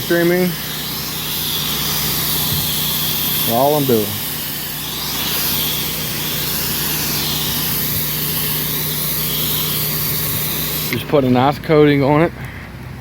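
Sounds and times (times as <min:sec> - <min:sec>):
spray wand hissing: 0:00.0 - 0:11.2
pressure washer running: 0:00.0 - 0:12.0.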